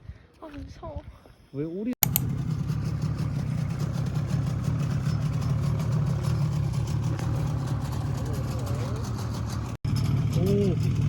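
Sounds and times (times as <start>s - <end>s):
low engine hum of machinery: 2.0s - 11.0s.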